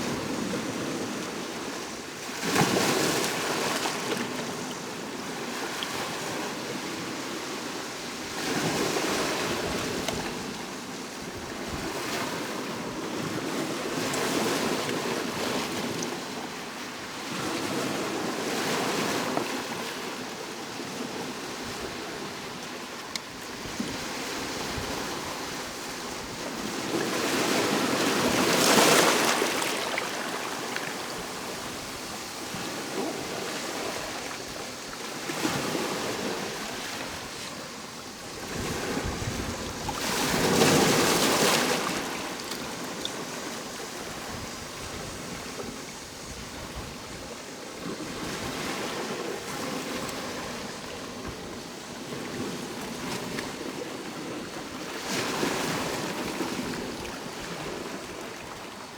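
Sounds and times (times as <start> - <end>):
ocean waves crashing on shore: 0.0 - 58.9.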